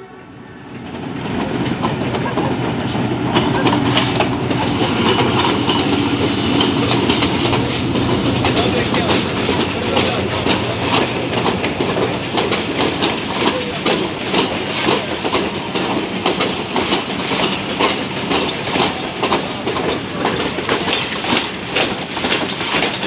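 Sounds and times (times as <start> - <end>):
continuous train rumble: 0.0 - 23.0
train wheels clattering over rail joints: 0.7 - 23.0.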